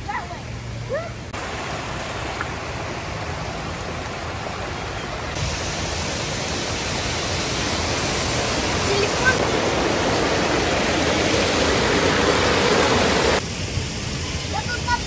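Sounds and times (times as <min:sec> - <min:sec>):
water rushing over rocks: 0:01.2 - 0:15.0.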